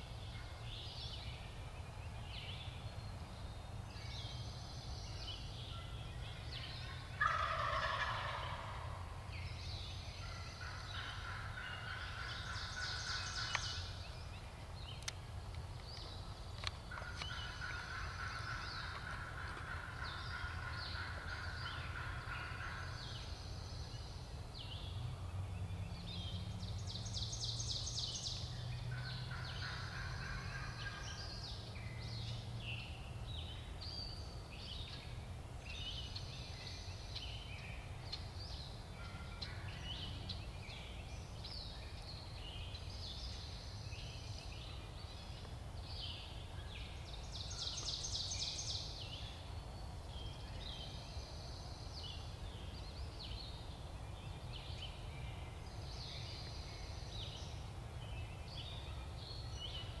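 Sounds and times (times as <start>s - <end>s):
songbirds chirping: 0.0s - 60.0s.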